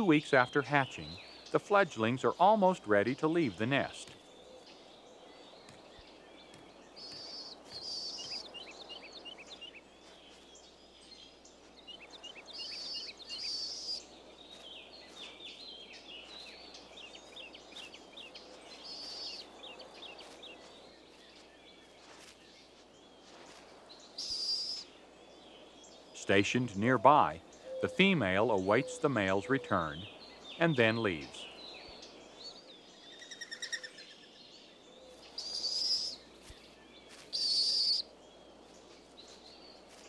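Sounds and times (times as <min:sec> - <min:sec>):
faint outdoor hiss: 0:00.0 - 0:40.0
small birds chirping: 0:00.0 - 0:40.0.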